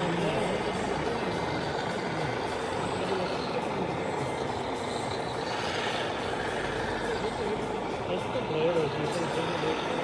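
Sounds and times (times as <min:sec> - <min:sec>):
faint murmur of voices: 0:00.0 - 0:10.0
model vehicle engines: 0:00.0 - 0:10.0.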